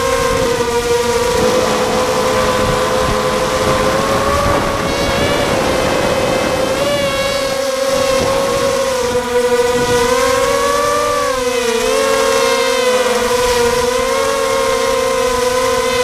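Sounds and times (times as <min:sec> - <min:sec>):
drone propellers whining: 0:00.0 - 0:16.0
wind rumbling on microphone: 0:00.0 - 0:16.0.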